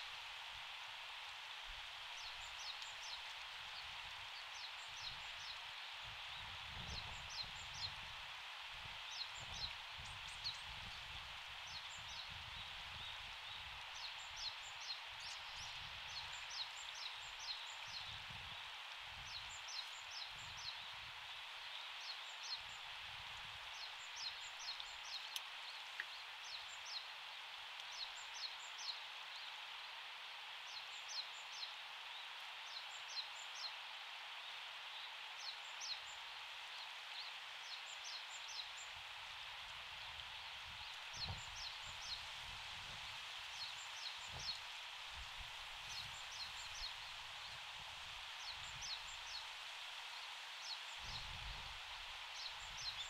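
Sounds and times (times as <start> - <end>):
steady outdoor hiss: 0.0 - 53.0.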